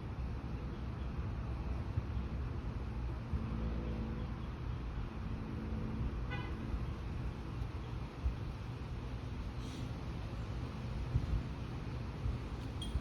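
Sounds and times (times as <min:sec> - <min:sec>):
motor vehicle rumbling: 0:01.6 - 0:13.0.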